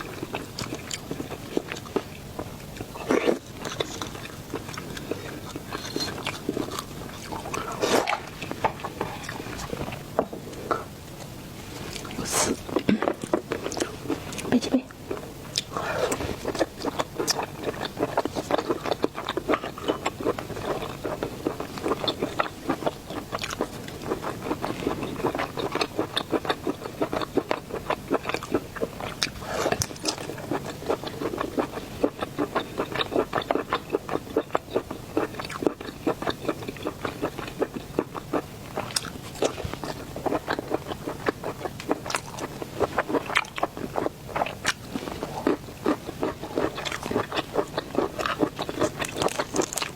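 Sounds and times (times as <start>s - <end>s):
person chewing and biting: 0.1s - 10.0s, 15.1s - 49.9s.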